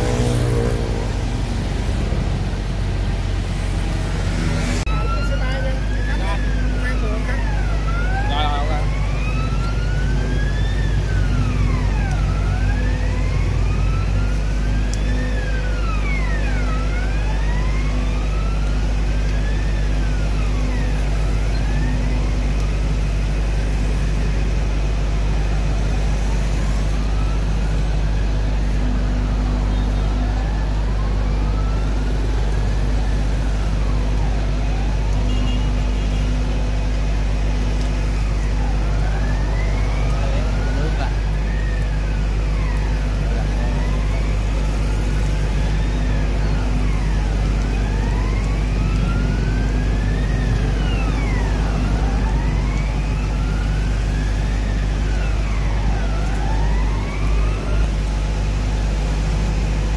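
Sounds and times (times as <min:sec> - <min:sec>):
fire truck siren wailing: 0:00.0 - 0:59.9
truck engine droning: 0:00.0 - 0:59.9.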